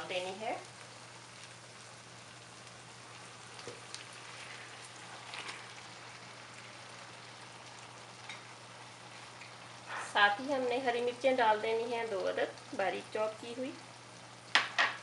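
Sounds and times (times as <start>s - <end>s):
loud crackles in a hot pan: 0.0s - 15.0s
masala sizzling in a wok: 0.0s - 15.0s.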